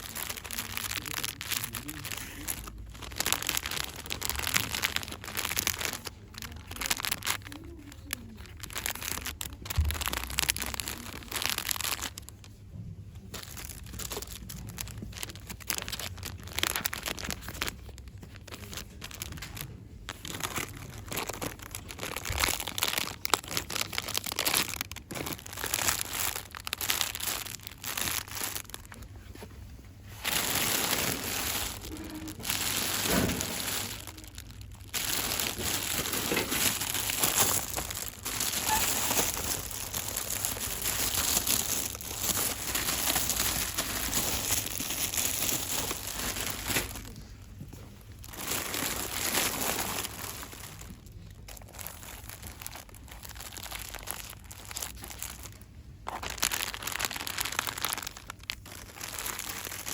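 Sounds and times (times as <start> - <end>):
packaging crinkling: 0.0 - 59.9.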